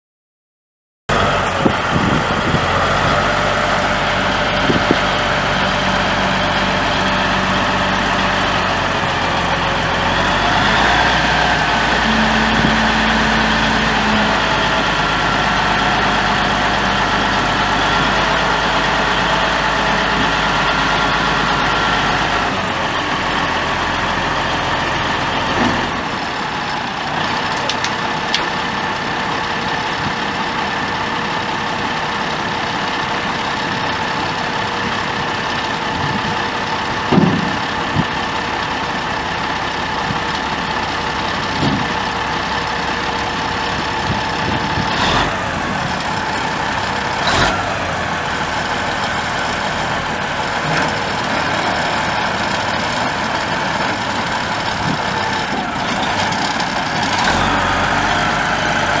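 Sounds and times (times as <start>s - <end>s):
diesel truck engine idling: 1.1s - 59.0s.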